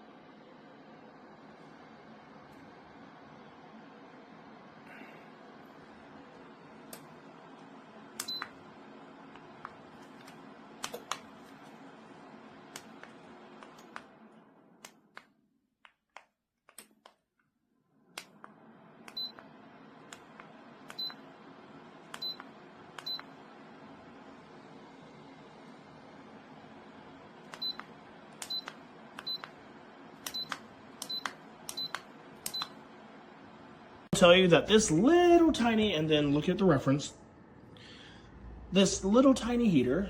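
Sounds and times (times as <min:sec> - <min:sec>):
heater low hum: 0:00.0 - 0:40.0.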